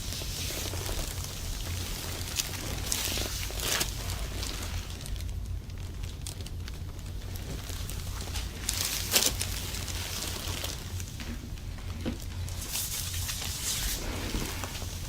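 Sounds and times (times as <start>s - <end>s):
hands rubbing and rustling: 0.0s - 5.2s, 7.2s - 15.0s
low steady hum: 0.0s - 15.0s.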